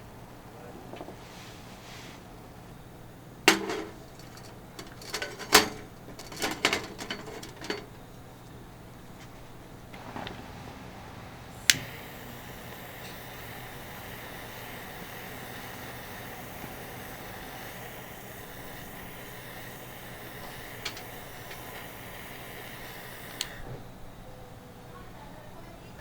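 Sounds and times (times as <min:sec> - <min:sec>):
barbecue grill hissing: 0:00.0 - 0:24.6.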